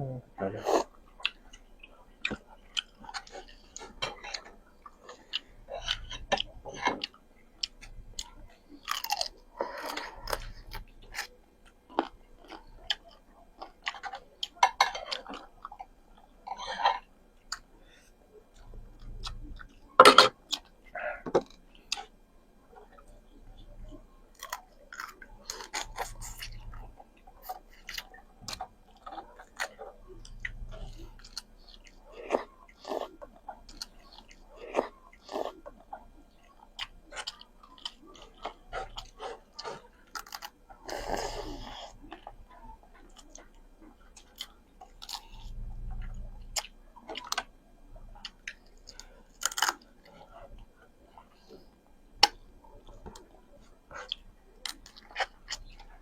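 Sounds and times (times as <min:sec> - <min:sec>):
chewing and biting food: 0:00.8 - 0:17.8, 0:18.4 - 0:56.0.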